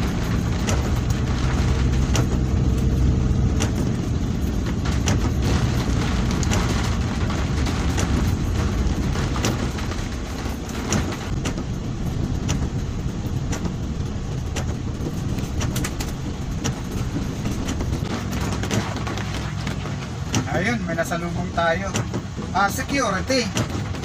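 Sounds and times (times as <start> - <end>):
engine and tyre rumble: 0.0 - 24.0
sharp clicks and knocks: 0.0 - 24.0.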